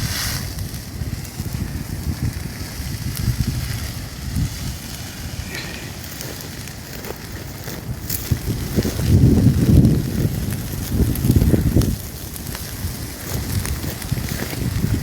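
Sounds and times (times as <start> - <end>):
fire crackling: 0.0 - 15.0
wind rumbling on microphone: 0.0 - 15.0.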